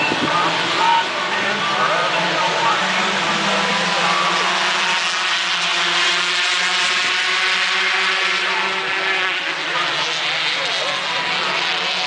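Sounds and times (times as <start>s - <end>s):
kart engines buzzing: 0.0s - 12.0s.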